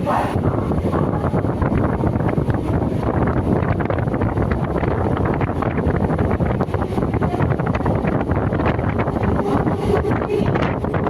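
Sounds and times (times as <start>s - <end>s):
train rumbling and rattling: 0.0s - 11.0s
wind buffeting microphone: 0.0s - 11.0s.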